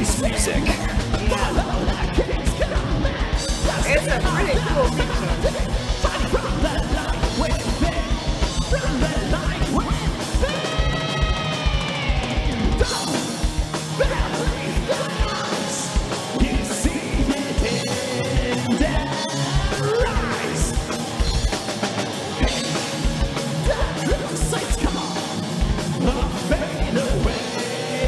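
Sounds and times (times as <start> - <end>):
distorted electric guitar: 0.0 - 28.0
fast bass drum beats: 0.0 - 28.0.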